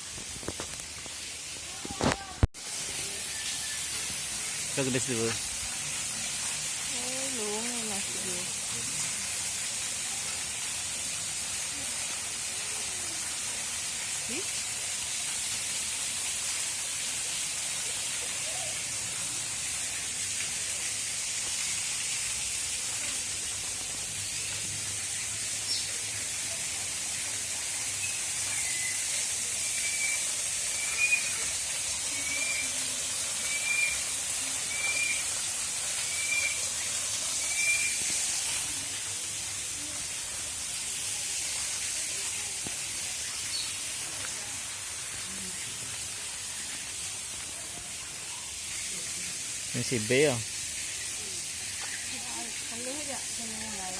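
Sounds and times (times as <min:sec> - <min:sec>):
steady high hiss: 0:00.0 - 0:53.9.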